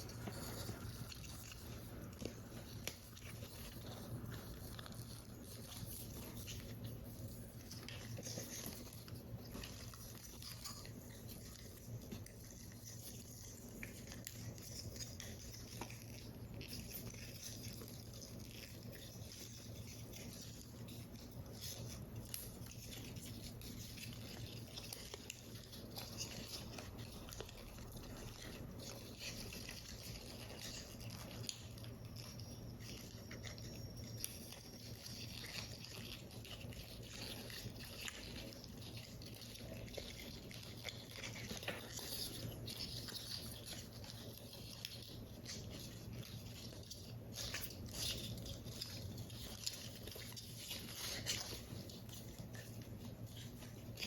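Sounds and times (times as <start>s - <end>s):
low steady hum: 0.0s - 54.0s
paper rustling and scratching: 0.0s - 54.0s.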